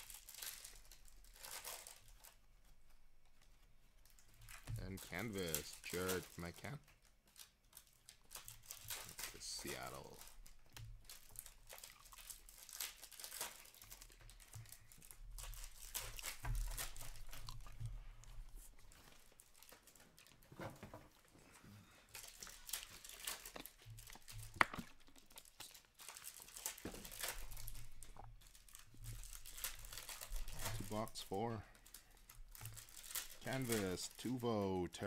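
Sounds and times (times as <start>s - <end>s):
cards rustling: 0.0s - 3.6s, 4.2s - 35.0s
wrappers crinkling and tearing: 0.0s - 35.0s.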